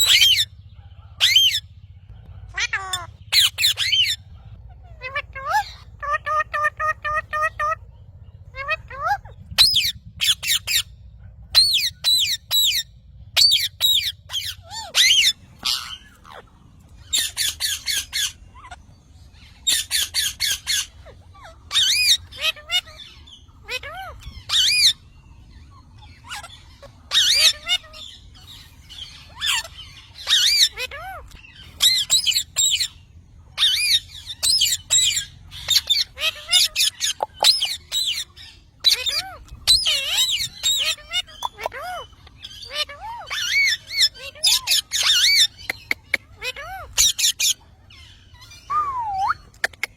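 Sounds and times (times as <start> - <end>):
parrot squawking: 0.0 - 1.7, 2.4 - 10.9, 11.5 - 49.9.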